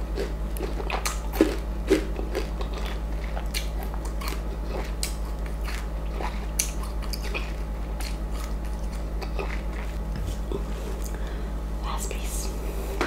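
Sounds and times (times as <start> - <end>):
steady low hum: 0.0 - 13.0
wet chewing: 0.2 - 11.2.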